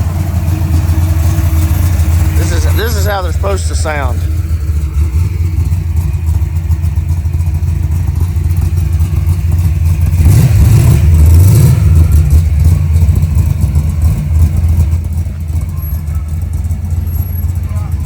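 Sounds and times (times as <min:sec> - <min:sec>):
car engine deep rumble: 0:00.0 - 0:18.0.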